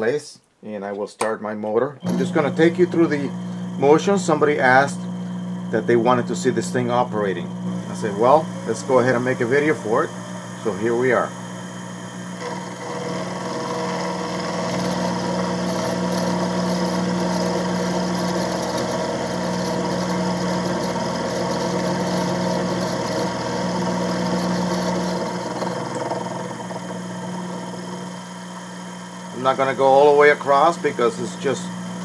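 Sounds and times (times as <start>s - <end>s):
end mill cutting aluminium: 2.0s - 32.0s
mill motor and spindle hum: 2.0s - 32.0s.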